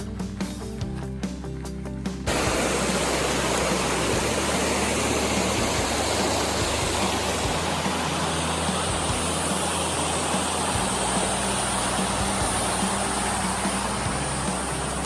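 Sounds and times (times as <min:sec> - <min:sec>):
background music: 0:00.0 - 0:15.0
flowing water rushing: 0:02.3 - 0:15.0.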